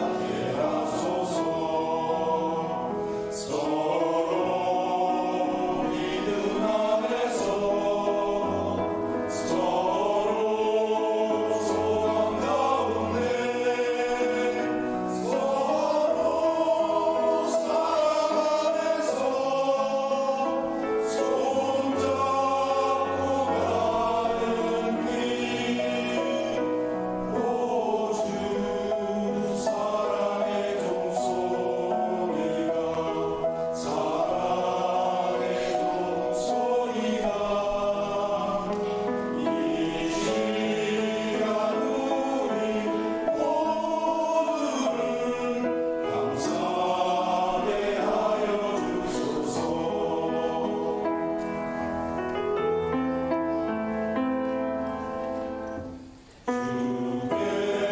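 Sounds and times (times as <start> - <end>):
choir singing a hymn: 0.0 - 57.9.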